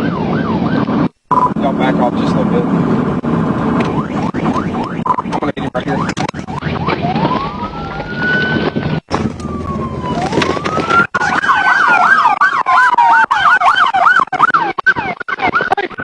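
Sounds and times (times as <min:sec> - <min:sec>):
siren yelp: 0:00.0 - 0:02.4, 0:03.8 - 0:16.0
descending siren tone: 0:00.0 - 0:15.8
police siren wailing: 0:00.0 - 0:16.0.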